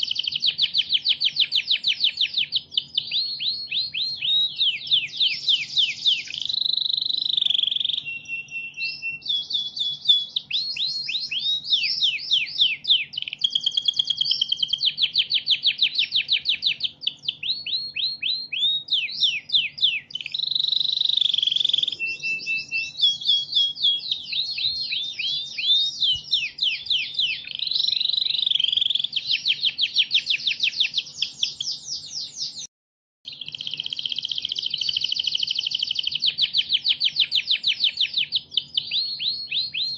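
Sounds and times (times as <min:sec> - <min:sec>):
canary singing trills: 0:00.0 - 0:32.7, 0:33.3 - 0:39.9.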